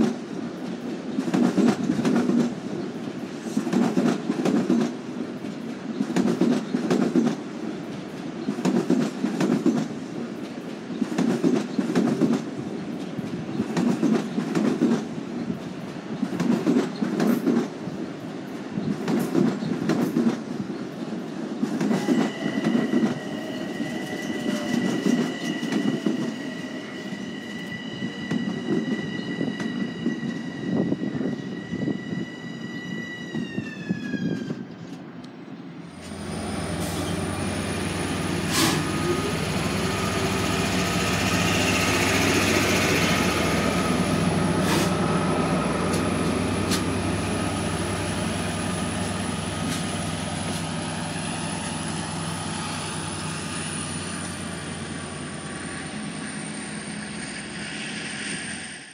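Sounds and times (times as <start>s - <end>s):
diesel locomotive drone: 0.0s - 58.9s.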